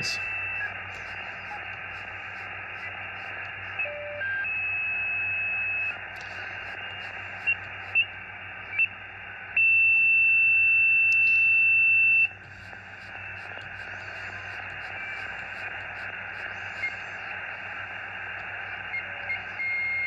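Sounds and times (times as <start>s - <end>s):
short radio chirps: 0.0s - 8.2s, 10.8s - 20.0s
faint brief radio tones: 0.0s - 8.9s, 10.5s - 20.0s
loud steady radio whistle: 0.0s - 20.0s
radio receiver hiss: 0.0s - 20.0s.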